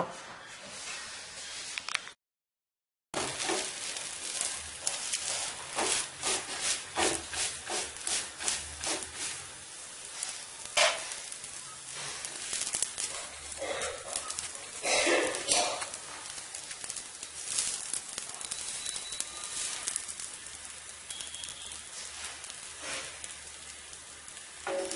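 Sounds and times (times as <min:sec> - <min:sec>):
ticks and taps on hot griddle: 0:03.2 - 0:24.9.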